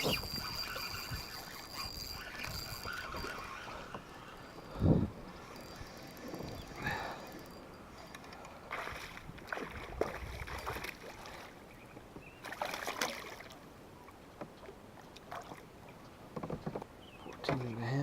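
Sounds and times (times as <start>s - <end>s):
water swishes: 0.0s - 11.8s, 12.4s - 15.9s.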